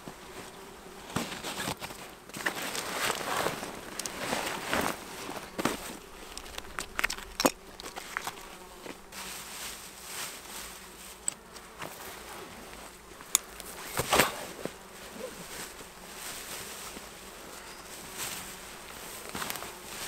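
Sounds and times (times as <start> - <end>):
flies buzzing: 0.0 - 20.0
rustling of bags being handled: 0.0 - 20.0.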